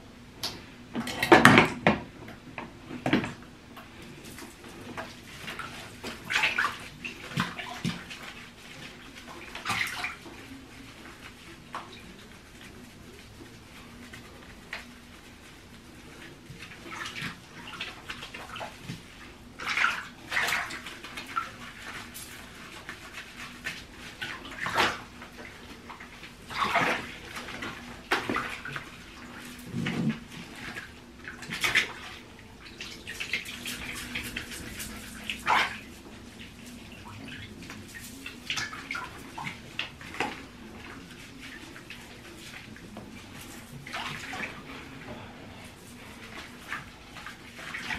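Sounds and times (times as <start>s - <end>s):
water sloshing and splashing: 1.0s - 47.9s.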